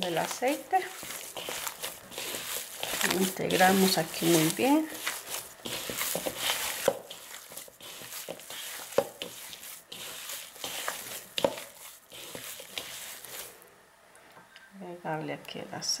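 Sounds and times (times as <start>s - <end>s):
hands kneading moist dough: 0.0s - 13.6s.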